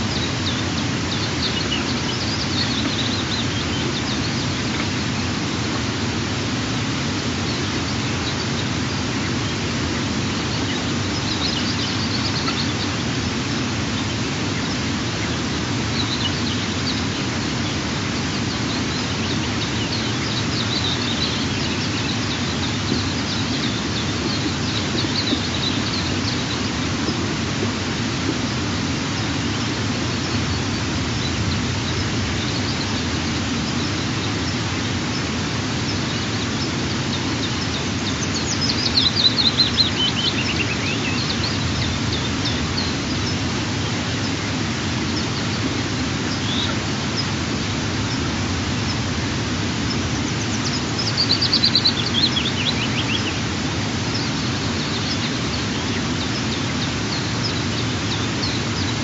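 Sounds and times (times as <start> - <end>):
faint high bird chirps: 0.0 - 5.4, 7.4 - 27.3, 28.6 - 47.4, 49.8 - 59.0
rushing outdoor noise: 0.0 - 59.0.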